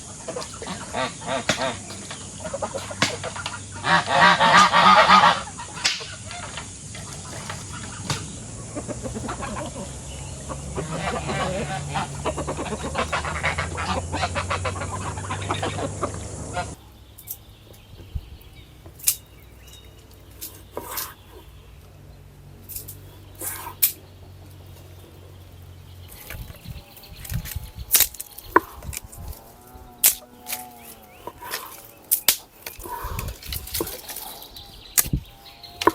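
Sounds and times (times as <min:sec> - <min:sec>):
geese honking: 0:00.0 - 0:16.8, 0:18.6 - 0:35.9.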